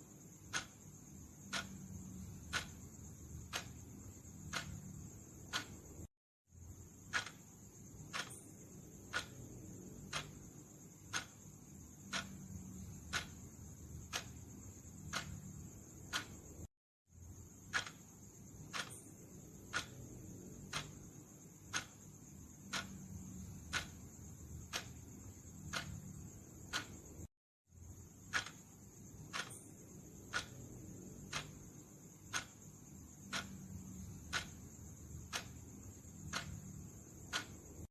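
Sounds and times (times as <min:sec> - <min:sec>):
clock ticking: 0:00.0 - 0:37.9.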